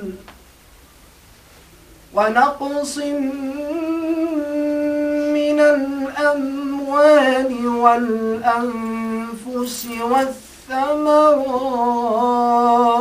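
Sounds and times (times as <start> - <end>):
man reciting melodically: 0.0 - 0.3, 2.1 - 13.0.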